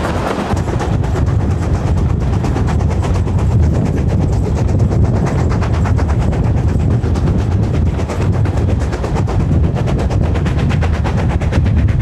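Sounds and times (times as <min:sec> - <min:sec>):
low rumble of train: 0:00.0 - 0:12.0
steam locomotive exhaust beats: 0:00.0 - 0:12.0.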